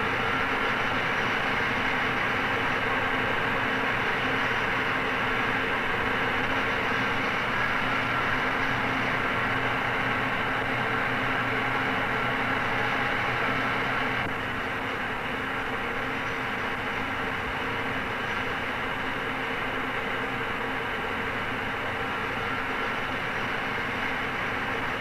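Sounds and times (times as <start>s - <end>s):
steady droning hum: 0.0s - 25.0s.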